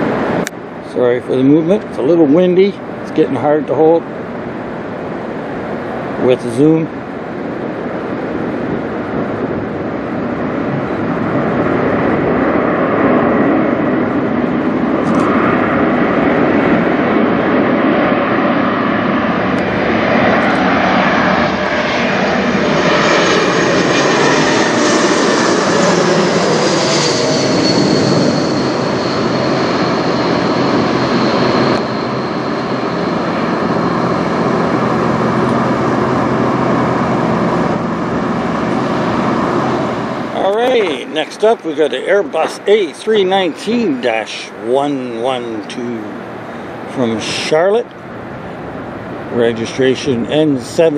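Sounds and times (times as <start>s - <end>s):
jet airliner flying overhead: 0.0s - 50.9s.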